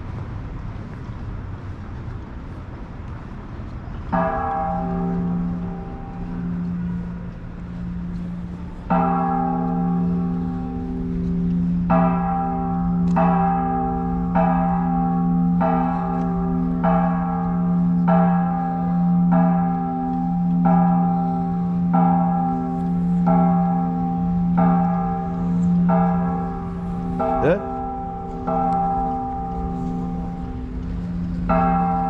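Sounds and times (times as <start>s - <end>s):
constant low hum: 0.0s - 32.0s
church bell tolling: 4.1s - 32.0s.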